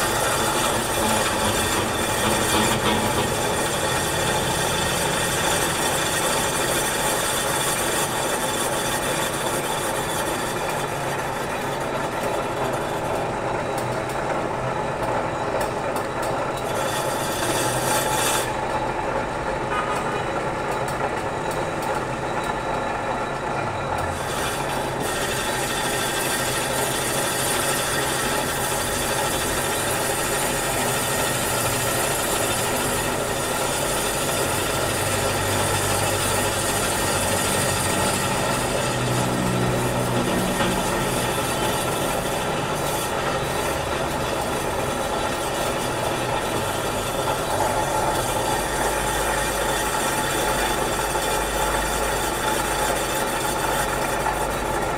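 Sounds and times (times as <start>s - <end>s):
metal lathe humming: 0.0s - 54.9s.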